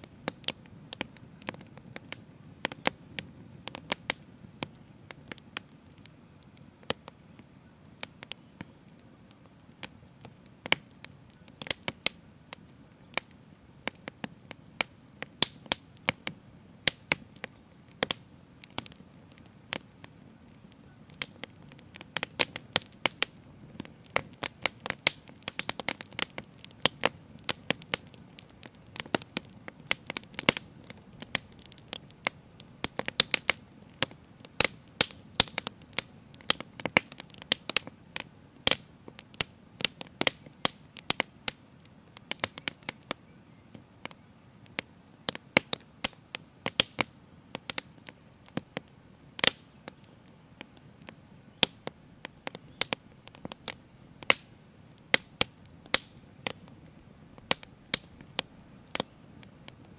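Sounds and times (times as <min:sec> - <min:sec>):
faint low background noise: 0:00.0 - 0:59.9
wood fire crackling and popping: 0:00.0 - 0:59.9.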